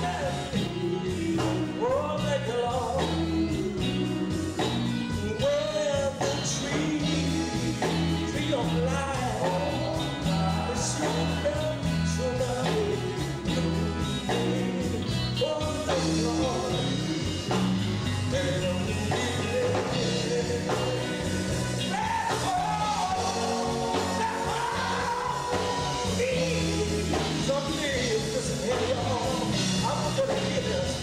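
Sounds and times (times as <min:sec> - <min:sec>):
live band playing: 0:00.0 - 0:31.0
male vocal group singing: 0:00.0 - 0:31.0.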